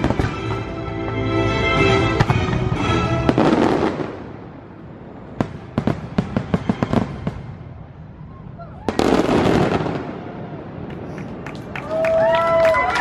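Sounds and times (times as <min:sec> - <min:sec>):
fireworks show music: 0:00.0 - 0:11.4.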